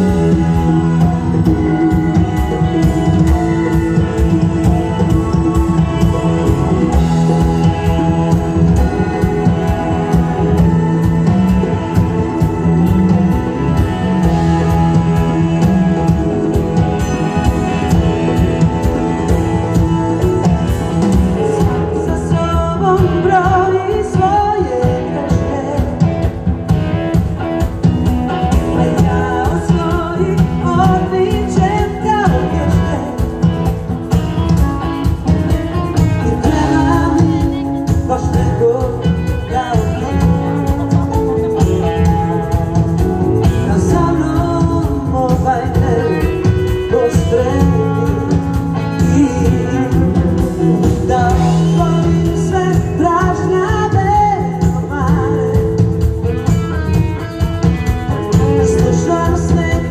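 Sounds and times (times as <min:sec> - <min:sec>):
bass: 0:00.0 - 0:59.9
drum kit beat: 0:00.0 - 0:59.9
electric guitar: 0:00.0 - 0:59.9
keyboard: 0:00.0 - 0:59.9
woman singing lead: 0:00.0 - 0:59.9.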